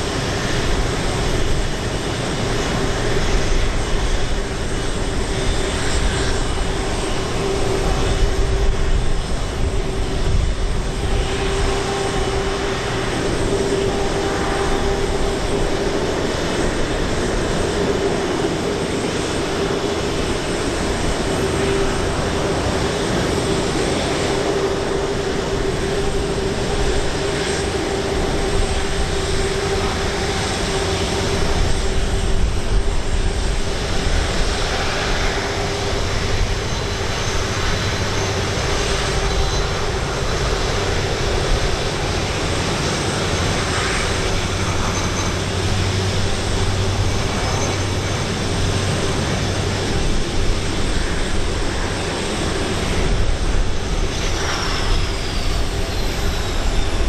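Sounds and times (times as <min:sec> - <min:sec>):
jet engines whining at taxi power: 0:00.0 - 0:57.0.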